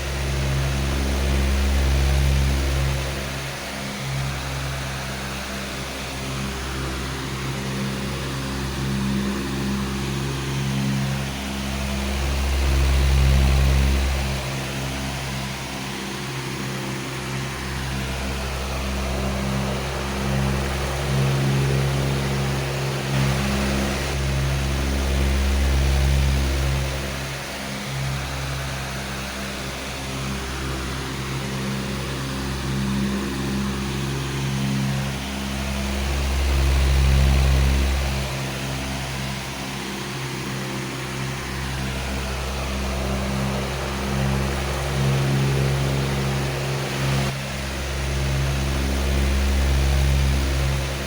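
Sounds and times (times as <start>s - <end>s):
electric fan running: 0.0s - 51.0s.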